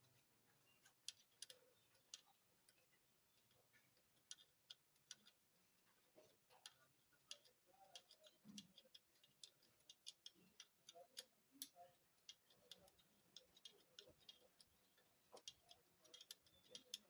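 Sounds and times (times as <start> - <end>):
small metal parts clicking: 1.0 - 5.5, 6.2 - 17.0.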